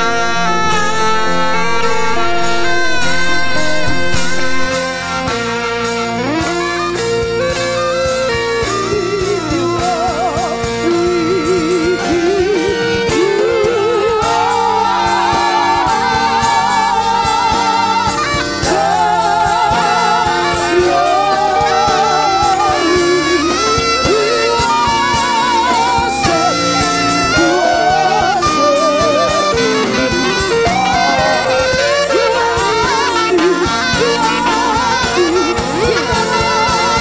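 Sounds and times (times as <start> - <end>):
person singing with vibrato: 0.0 - 5.0, 6.2 - 37.0
instrumental accompaniment: 0.0 - 37.0.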